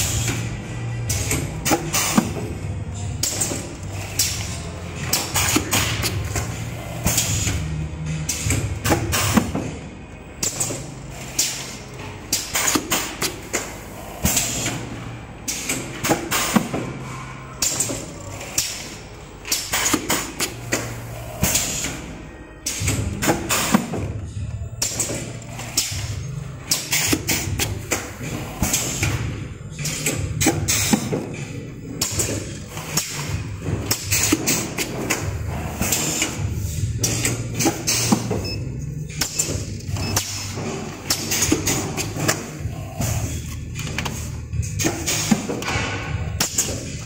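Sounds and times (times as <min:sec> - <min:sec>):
machine knocking and clattering: 0:00.0 - 0:09.8, 0:10.4 - 0:17.0, 0:22.6 - 0:38.5, 0:39.1 - 0:47.0.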